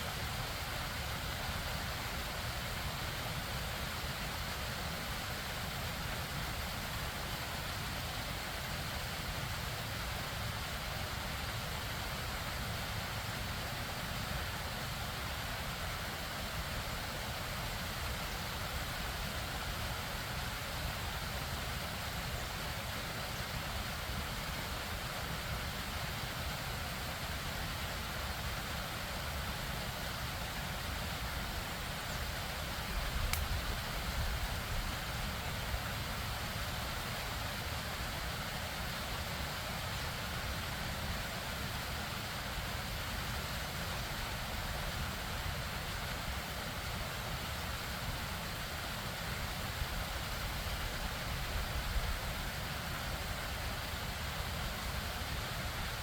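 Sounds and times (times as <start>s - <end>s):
stream and waterfall rushing: 0.0s - 56.0s.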